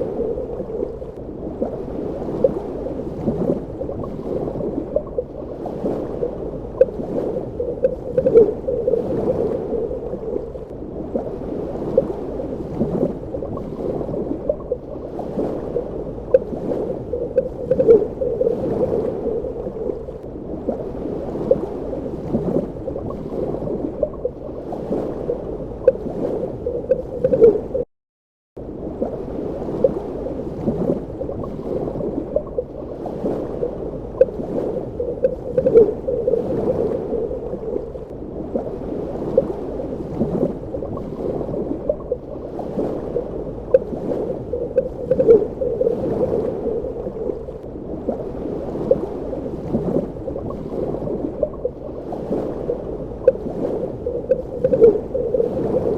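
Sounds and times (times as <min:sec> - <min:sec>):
underwater bubbling and gurgling: 0:00.0 - 0:27.9, 0:28.6 - 0:55.9.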